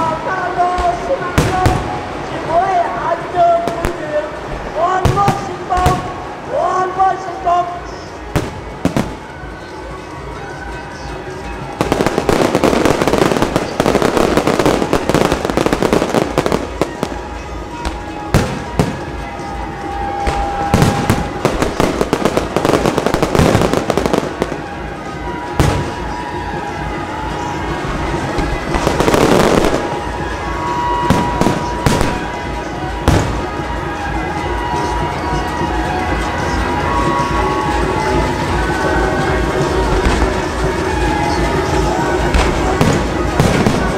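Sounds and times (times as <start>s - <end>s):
fireworks bangs: 0.0s - 2.8s, 3.4s - 6.4s, 8.3s - 9.4s, 11.6s - 43.9s
fireworks crackling: 0.0s - 43.9s.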